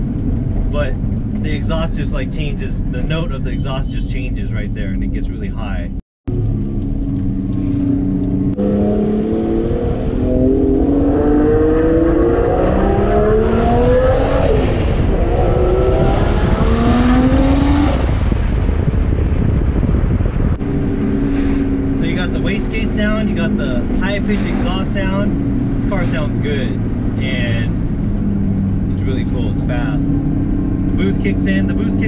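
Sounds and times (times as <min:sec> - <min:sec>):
car engine accelerating: 0:00.0 - 0:05.6, 0:06.3 - 0:32.0.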